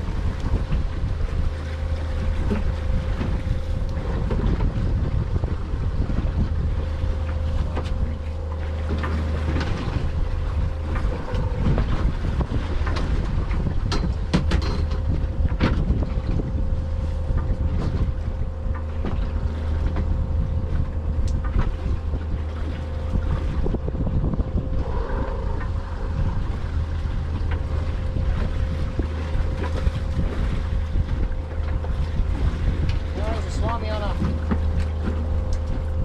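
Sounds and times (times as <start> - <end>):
boat machinery hum: 0.0 - 36.0
wind buffeting microphone: 0.0 - 36.0.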